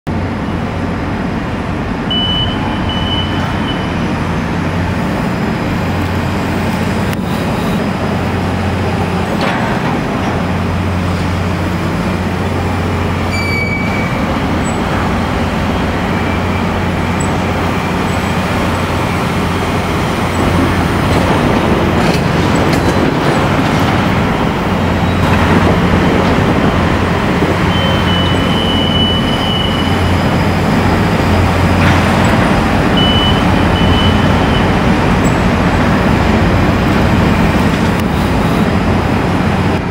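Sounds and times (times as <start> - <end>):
heavy machinery engine hum: 0.1 - 39.9.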